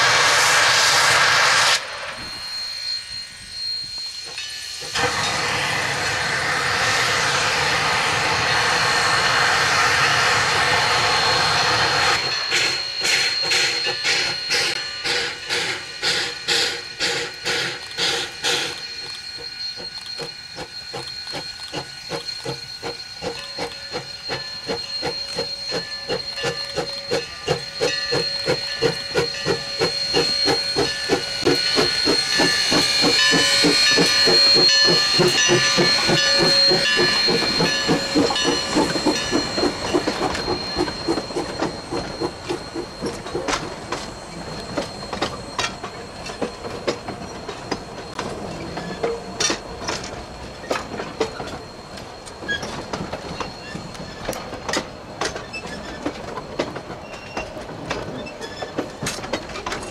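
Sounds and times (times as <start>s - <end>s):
steam hissing: 0.0s - 55.9s
steam locomotive exhaust chuffing: 0.0s - 59.9s
train wheels clicking over rail joints: 11.7s - 59.9s.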